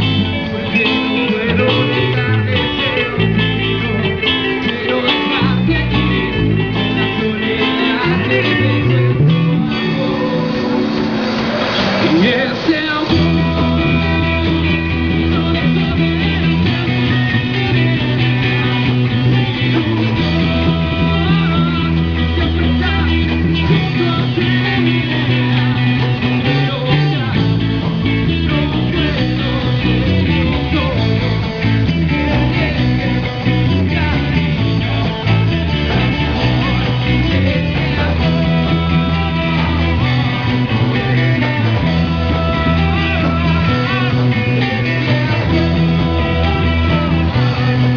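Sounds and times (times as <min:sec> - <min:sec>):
electric guitars: 0:00.0 - 0:47.9
person singing into microphone: 0:00.0 - 0:47.9
steady bass line: 0:00.0 - 0:47.9.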